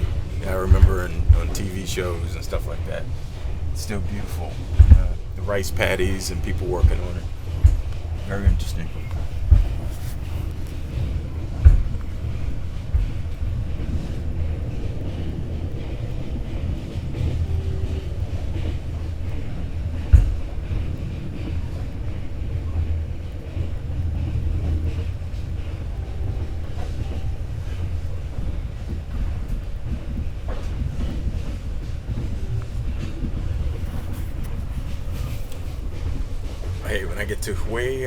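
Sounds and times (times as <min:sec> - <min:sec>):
sharp knocks from train: 0:00.0 - 0:38.0
train carriage rumbling: 0:00.0 - 0:38.0.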